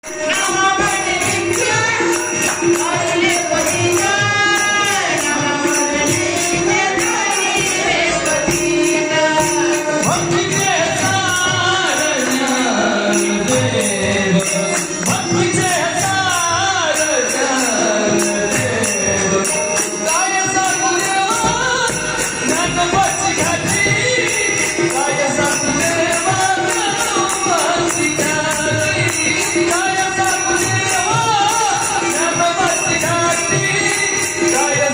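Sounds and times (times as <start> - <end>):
jingling percussion: 0.0 - 34.9.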